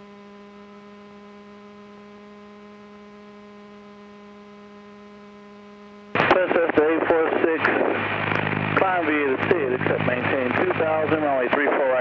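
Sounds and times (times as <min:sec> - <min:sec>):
electrical hum on radio: 0:00.0 - 0:12.0.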